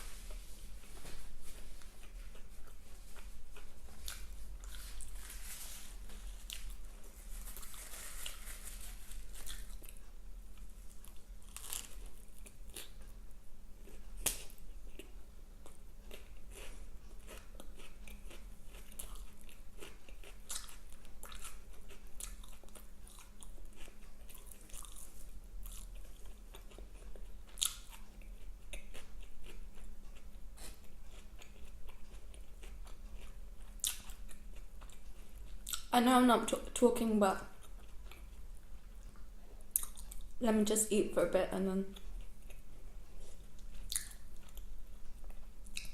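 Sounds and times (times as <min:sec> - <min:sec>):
person chewing crunchy food: 0:00.0 - 0:35.9, 0:37.5 - 0:40.4, 0:41.9 - 0:45.9.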